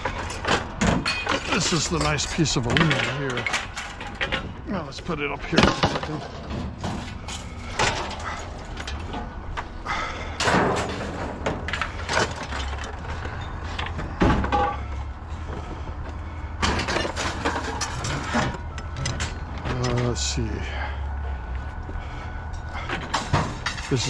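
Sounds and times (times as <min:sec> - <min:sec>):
scrap metal clanking and scraping: 0:00.0 - 0:24.0
steady low hum: 0:00.0 - 0:24.0.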